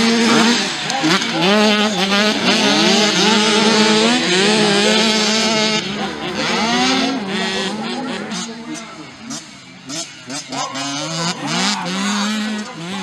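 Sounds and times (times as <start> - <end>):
two-stroke motocross engines racing: 0.0 - 13.0.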